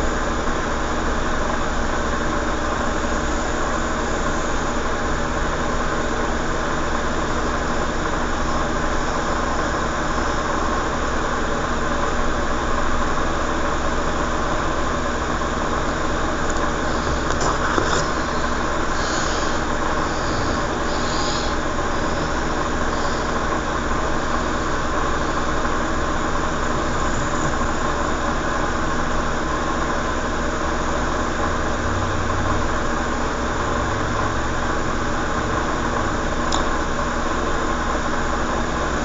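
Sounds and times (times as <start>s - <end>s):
background hum and hiss: 0.0s - 39.0s.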